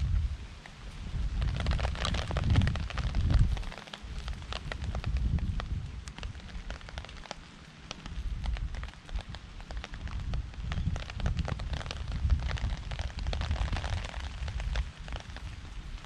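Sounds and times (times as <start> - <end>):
campfire crackling: 0.0 - 16.0
rain falling on a tarp: 0.0 - 16.0
wind gusts on microphone: 0.0 - 16.0.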